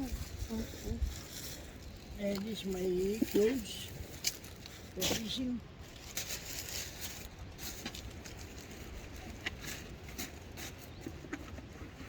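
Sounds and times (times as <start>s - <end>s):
rustling of clothes: 0.0s - 12.0s.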